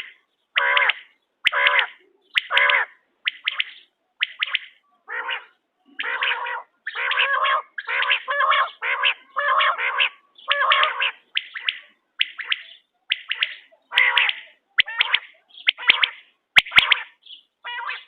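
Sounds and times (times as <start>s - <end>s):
quail calling: 0.0s - 18.0s.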